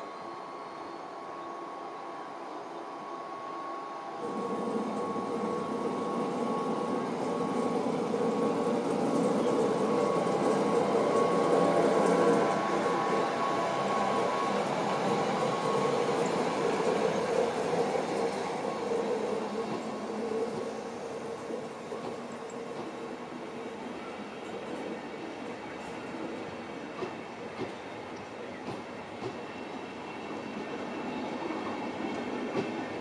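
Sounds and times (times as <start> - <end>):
electric locomotive whine: 0.0 - 33.0
train wheels rolling rumble: 3.0 - 33.0.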